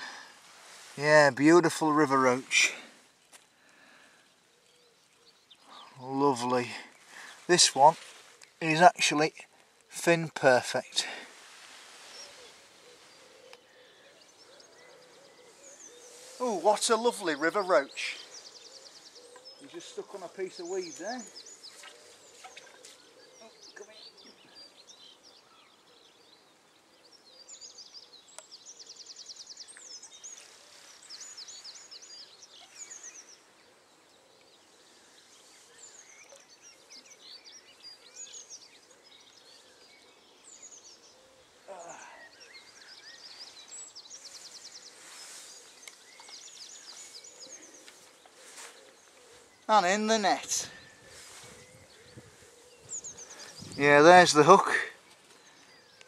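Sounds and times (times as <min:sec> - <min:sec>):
soft outdoor hiss: 0:00.0 - 0:56.0
songbirds singing: 0:00.0 - 0:56.0.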